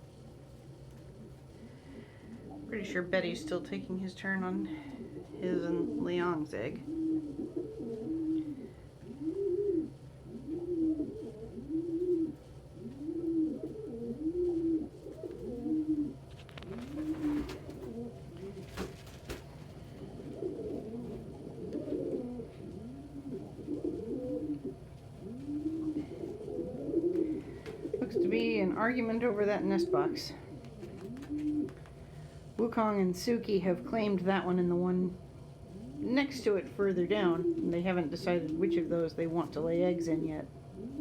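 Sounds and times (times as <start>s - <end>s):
pigeons cooing: 0.0s - 32.4s, 35.2s - 41.0s.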